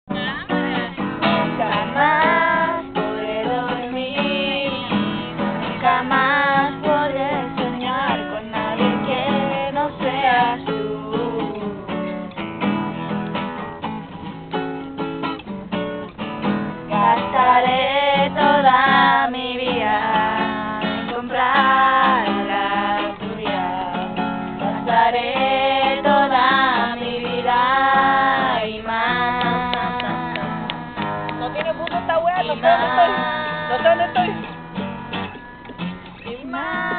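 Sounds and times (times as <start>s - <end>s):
people singing: 0.1s - 12.2s, 16.9s - 36.9s
strummed acoustic guitar: 0.1s - 36.9s.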